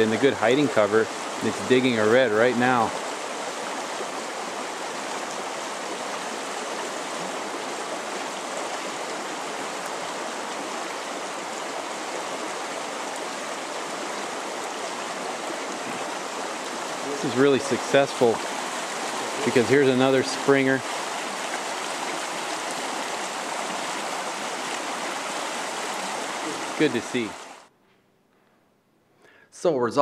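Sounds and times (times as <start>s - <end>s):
river running over gravel: 0.0s - 27.7s.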